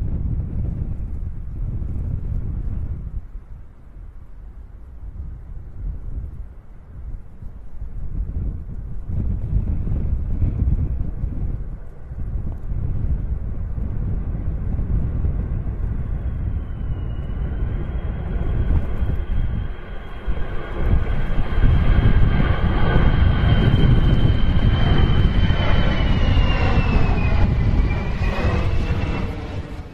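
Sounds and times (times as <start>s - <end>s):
jet engines passing overhead: 0.0s - 29.9s.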